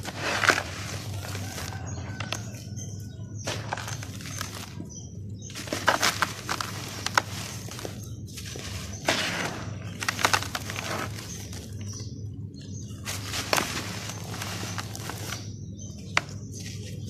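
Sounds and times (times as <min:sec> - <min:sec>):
dry dirt crushed by hand: 0:00.0 - 0:17.0.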